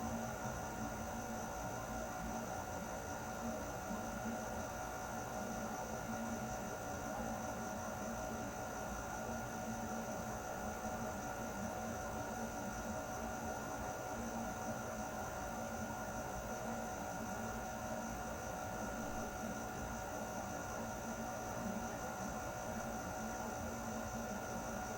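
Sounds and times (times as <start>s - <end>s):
air conditioner running: 0.0s - 24.9s.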